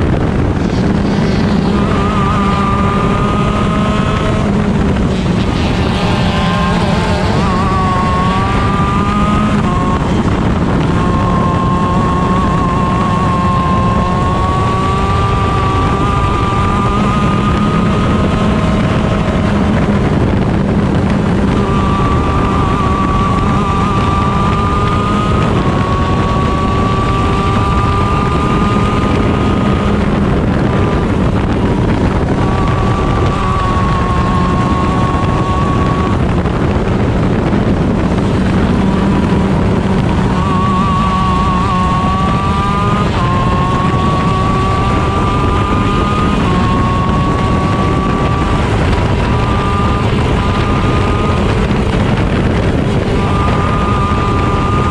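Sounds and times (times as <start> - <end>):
kart engine at racing speed: 0.0 - 54.9
wind noise on microphone: 0.0 - 54.9.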